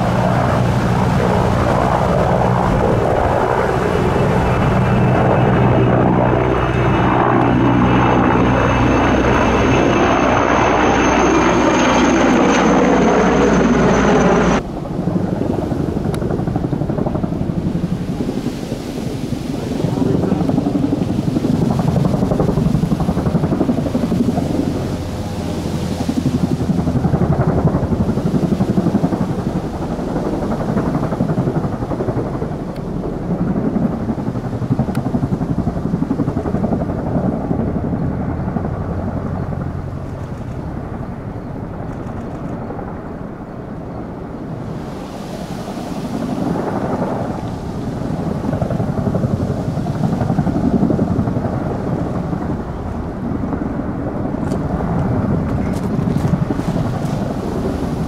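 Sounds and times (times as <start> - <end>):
helicopter rotor chop and turbine: 0.0 - 58.0.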